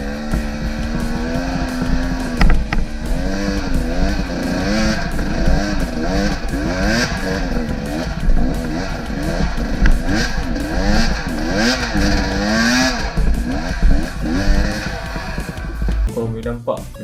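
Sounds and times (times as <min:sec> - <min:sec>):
dirt bike engine revving: 0:00.0 - 0:16.1
sharp knocks: 0:00.3 - 0:16.1.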